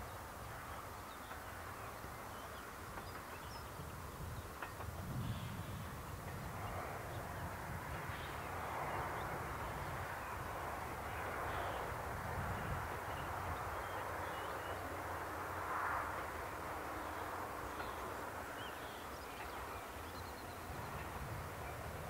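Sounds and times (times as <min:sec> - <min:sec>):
distant train rumble and hiss: 0:00.0 - 0:22.0.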